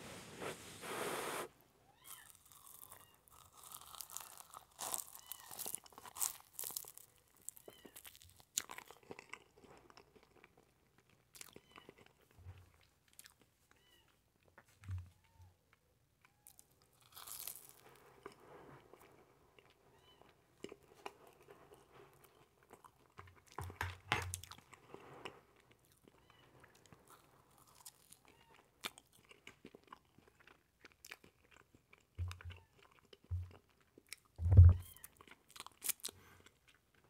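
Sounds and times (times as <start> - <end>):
chewing crunchy marshmallow: 2.1 - 14.8, 16.2 - 37.0.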